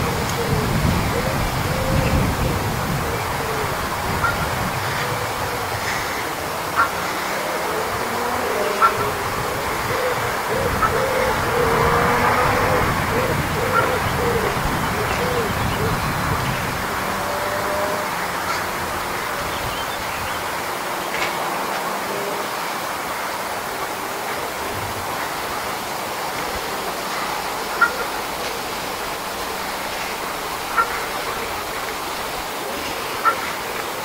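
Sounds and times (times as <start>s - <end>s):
rushing outdoor background noise: 0.0s - 34.0s.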